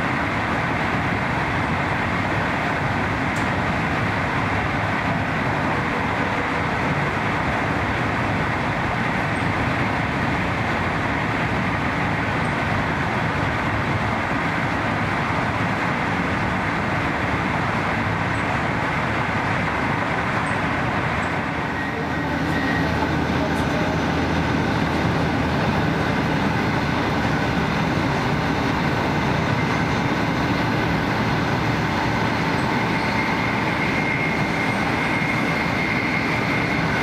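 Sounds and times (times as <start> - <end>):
wind rush from passing train: 0.0 - 37.0
train wheels rolling: 0.1 - 37.0.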